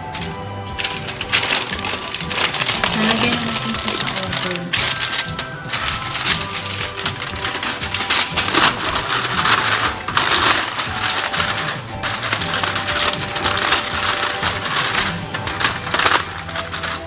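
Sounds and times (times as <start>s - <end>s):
aluminium foil crinkling: 0.0s - 17.0s
background music: 0.0s - 17.0s.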